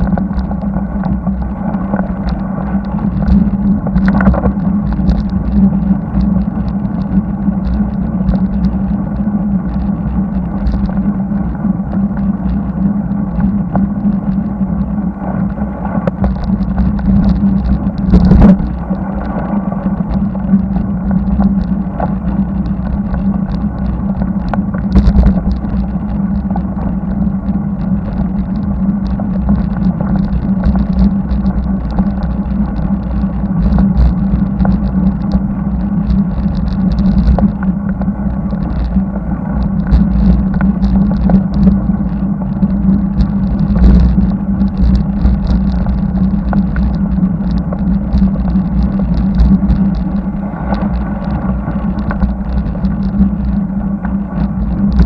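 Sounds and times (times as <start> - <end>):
tyre noise on asphalt: 0.0 - 55.0
wind rush: 0.0 - 55.0.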